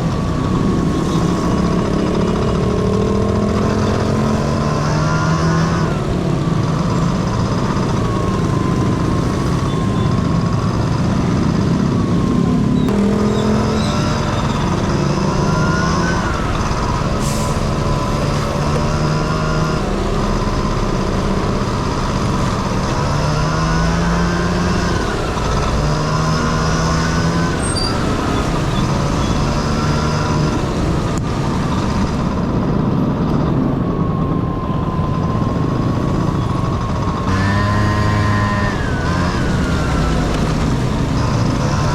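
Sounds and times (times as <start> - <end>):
scooter engine revving: 0.0 - 32.7, 35.9 - 41.9
steady rushing noise: 0.0 - 41.9.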